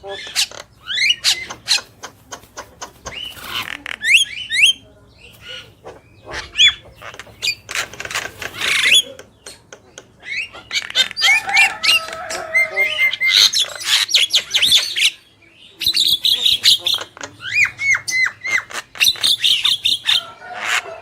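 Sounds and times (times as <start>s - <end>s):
mynas chattering calls: 0.0s - 21.0s.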